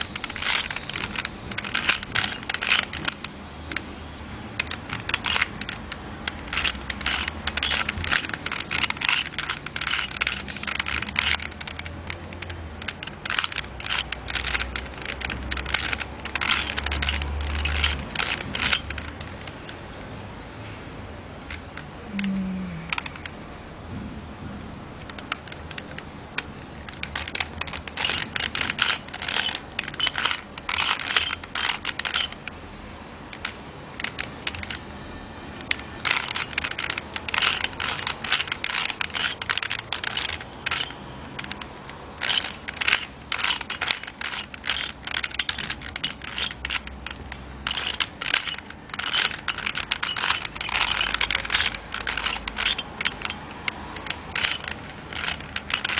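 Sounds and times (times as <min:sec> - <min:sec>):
puzzle cube plastic clicking: 0:00.0 - 0:20.1, 0:21.4 - 0:23.4, 0:25.0 - 0:32.6, 0:33.2 - 0:55.9.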